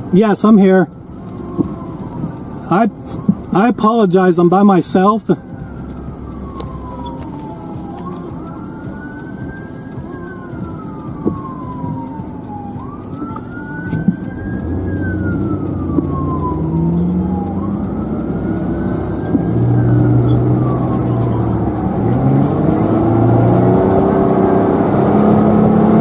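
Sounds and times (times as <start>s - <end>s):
vehicle engine running: 0.0s - 26.0s
siren wailing: 0.4s - 26.0s.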